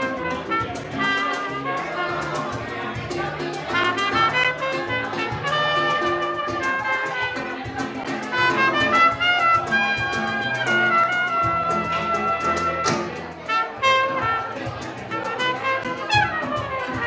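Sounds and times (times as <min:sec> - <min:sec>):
cajon beat: 0:00.0 - 0:17.0
double bass: 0:00.0 - 0:17.0
strummed flamenco guitar: 0:00.0 - 0:17.0
trumpet melody: 0:00.0 - 0:17.0.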